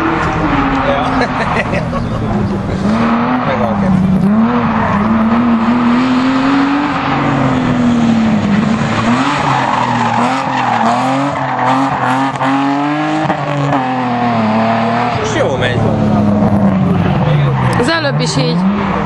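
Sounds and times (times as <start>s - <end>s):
car engine revving hard: 0.0s - 19.0s
tyres skidding on concrete: 0.0s - 19.0s.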